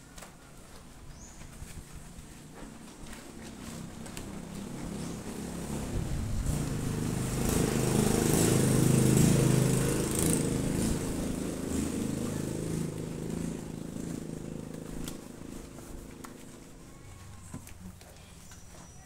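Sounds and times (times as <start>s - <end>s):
motorcycle engine running: 0.0s - 18.5s.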